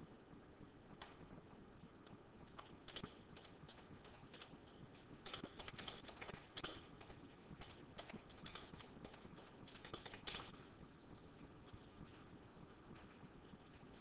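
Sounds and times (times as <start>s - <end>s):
low background hiss: 0.0s - 14.0s
faint clicks and taps: 0.9s - 14.0s.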